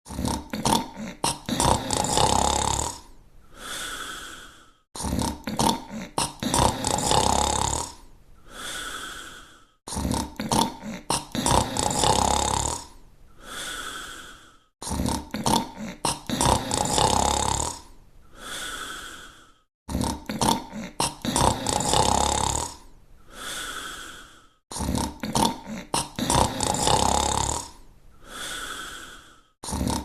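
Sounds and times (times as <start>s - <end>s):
rattling snore: 0.1s - 3.1s, 3.9s - 8.0s, 8.8s - 13.0s, 14.0s - 17.9s, 18.6s - 22.8s, 24.3s - 27.8s, 28.4s - 30.0s.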